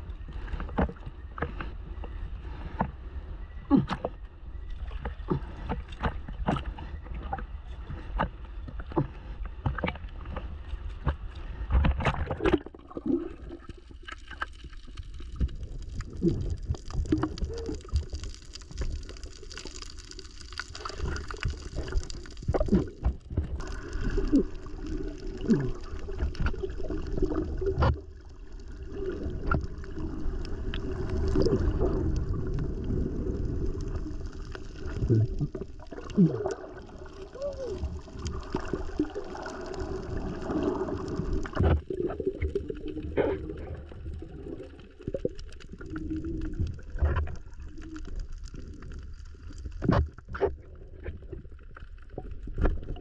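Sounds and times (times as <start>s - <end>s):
muffled underwater rumble: 0.0s - 53.0s
water splashing and gurgling: 0.0s - 53.0s.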